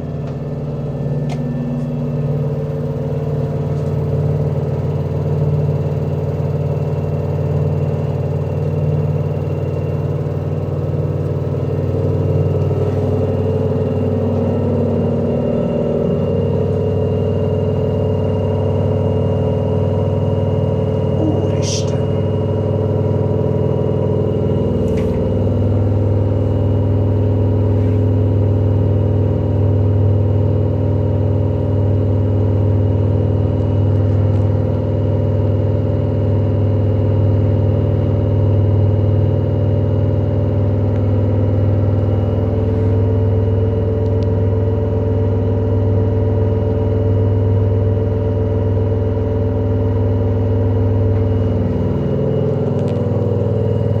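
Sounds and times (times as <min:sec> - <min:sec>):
washing machine spinning hum: 0:00.0 - 0:54.0.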